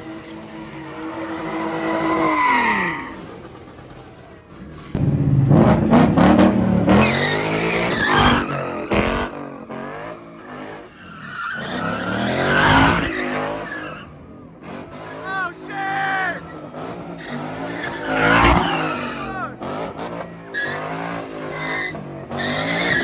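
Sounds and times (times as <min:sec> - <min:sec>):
tyres squealing and skidding: 0:00.0 - 0:23.0
car engine revving hard: 0:00.5 - 0:10.9, 0:11.6 - 0:23.0.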